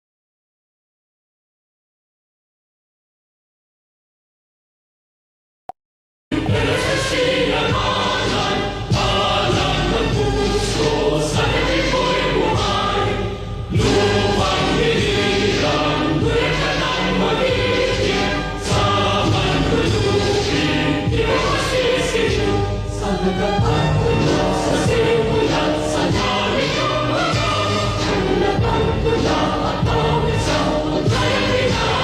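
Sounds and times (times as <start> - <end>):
choir singing with music: 6.3 - 32.0.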